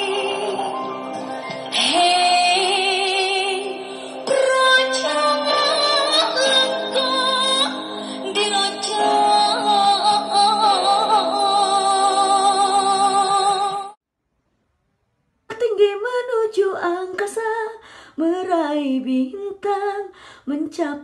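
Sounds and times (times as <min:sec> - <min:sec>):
woman singing unaccompanied: 0:01.7 - 0:14.0, 0:15.5 - 0:21.0.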